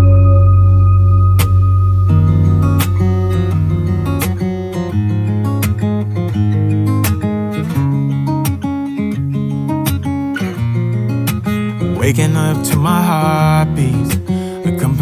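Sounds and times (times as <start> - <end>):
strummed acoustic guitar pop music: 0.0 - 15.0.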